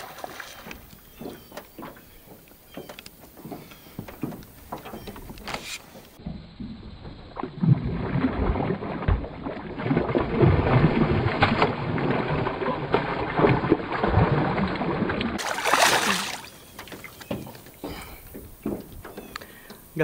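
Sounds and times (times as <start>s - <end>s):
fish splashing and thrashing: 0.0s - 19.8s.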